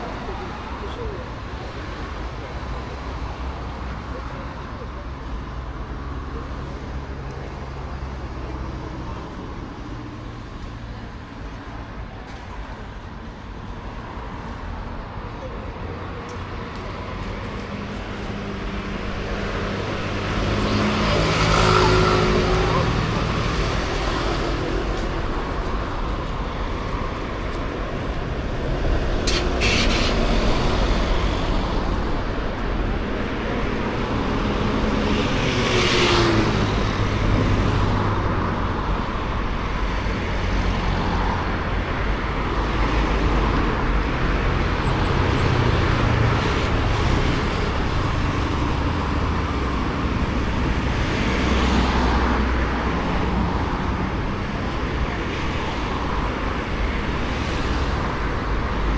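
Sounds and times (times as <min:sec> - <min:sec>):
road traffic passing: 0:00.0 - 0:58.9.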